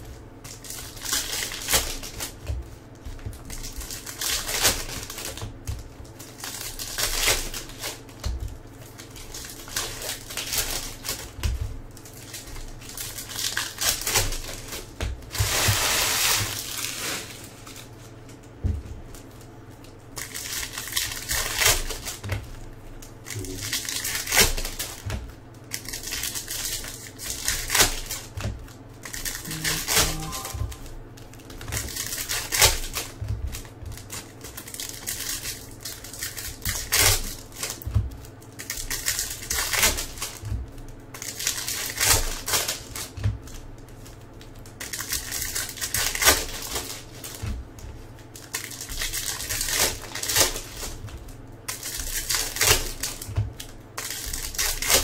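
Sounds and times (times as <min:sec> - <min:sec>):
card pack wrappers crinkling: 0:00.0 - 0:55.0
cards rustling and flicking: 0:00.4 - 0:47.6.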